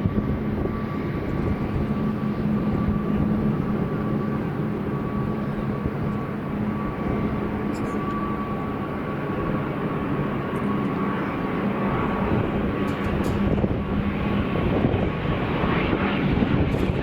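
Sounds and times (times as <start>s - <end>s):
high engine whine: 0.0s - 17.0s
turboprop aircraft droning: 0.0s - 17.0s.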